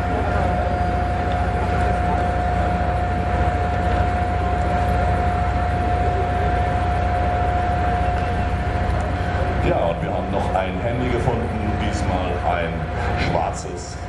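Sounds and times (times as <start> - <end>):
jet engine running: 0.0 - 14.0.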